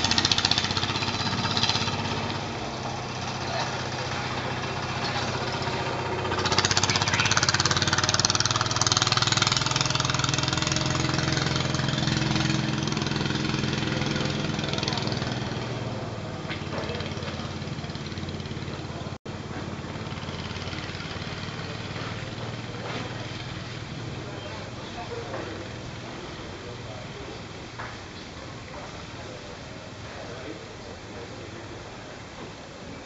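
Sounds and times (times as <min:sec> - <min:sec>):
boat engine chugging: 0:00.0 - 0:33.0.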